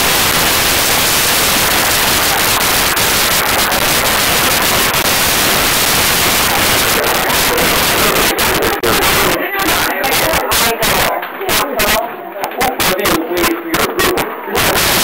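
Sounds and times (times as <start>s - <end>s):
loud static hiss: 0.0s - 15.0s.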